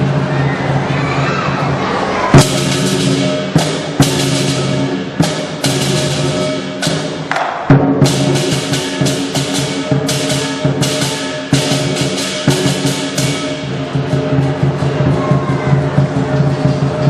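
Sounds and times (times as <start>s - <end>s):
big drum: 0.0s - 17.0s
gong ringing: 2.3s - 16.6s
cymbal clashes: 2.3s - 17.0s.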